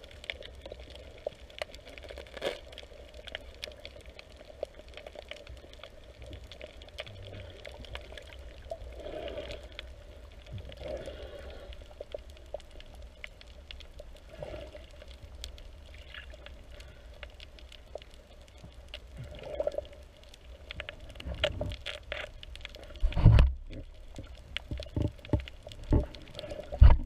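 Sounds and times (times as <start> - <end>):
muffled underwater rumble: 0.0 - 27.0
underwater clicks and crackles: 0.0 - 27.0.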